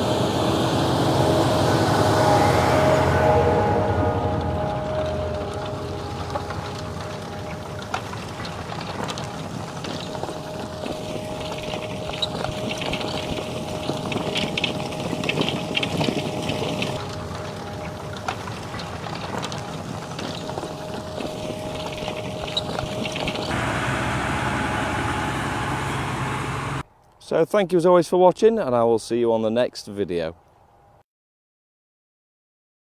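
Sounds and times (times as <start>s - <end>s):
tractor engine rumble with whine: 0.0s - 26.8s.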